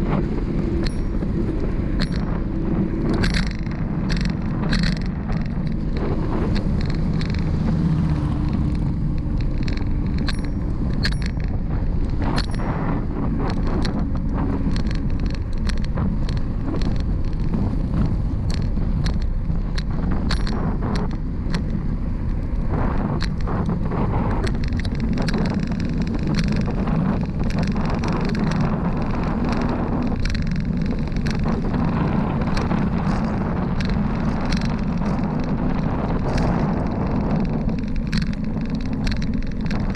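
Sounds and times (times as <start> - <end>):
bicycle road noise: 0.0 - 39.9
sharp clicks and ticks: 0.0 - 39.9
wind rumble: 0.0 - 39.9.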